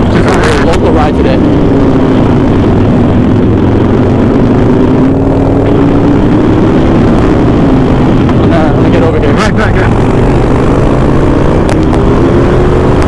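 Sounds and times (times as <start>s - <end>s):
constant rushing noise: 0.0s - 13.0s
motorcycle engine running: 0.0s - 13.0s.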